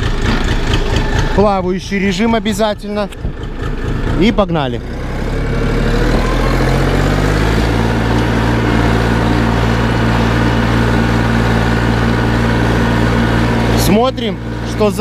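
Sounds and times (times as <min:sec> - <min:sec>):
tractor engine plowing: 0:00.0 - 0:15.0.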